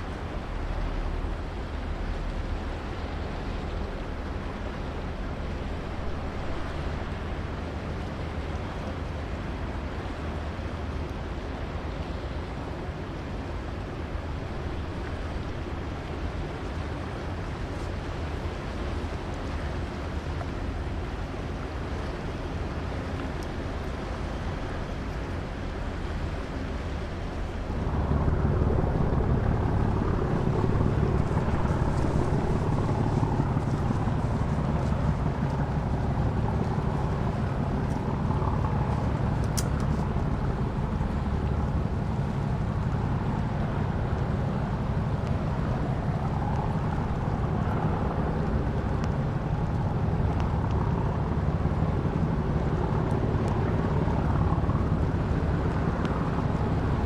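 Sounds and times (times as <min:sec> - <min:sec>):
boat diesel engine humming: 0:00.0 - 0:57.0.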